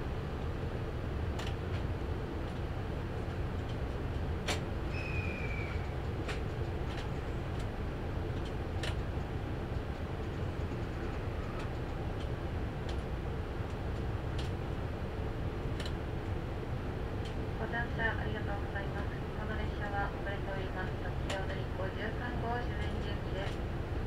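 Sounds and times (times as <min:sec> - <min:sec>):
railway station rumble: 0:00.0 - 0:24.0.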